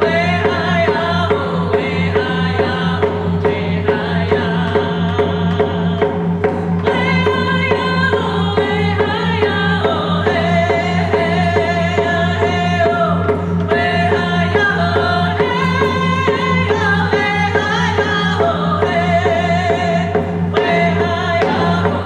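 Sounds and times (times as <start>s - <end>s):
hand drum steady beat: 0.0s - 22.0s
women singing together: 0.0s - 22.0s.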